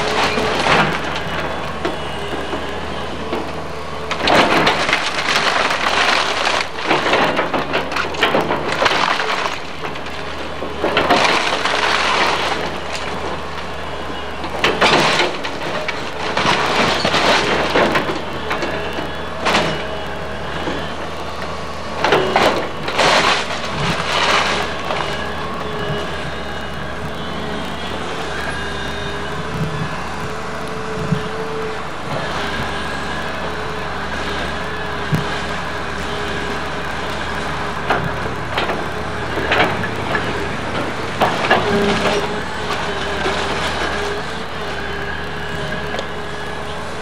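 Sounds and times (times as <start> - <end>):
timber cracking and splintering: 0.0 - 28.6, 29.5 - 46.8
excavator engine running: 0.0 - 47.0.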